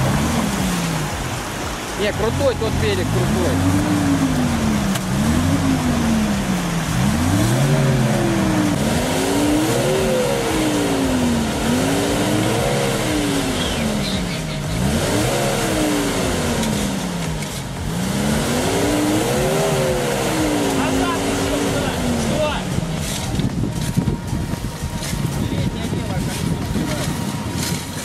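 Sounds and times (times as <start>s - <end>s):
engine revving hard: 0.0s - 24.2s.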